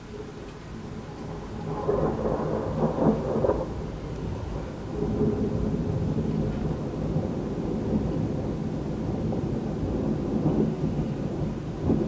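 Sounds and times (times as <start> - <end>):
thunder rumbling: 0.1 - 12.0.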